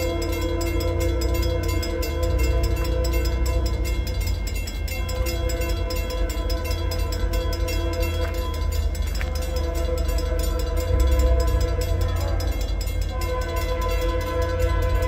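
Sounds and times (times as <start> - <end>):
freight train rumbling past: 0.0 - 15.0
steady pitched tones: 0.0 - 15.0.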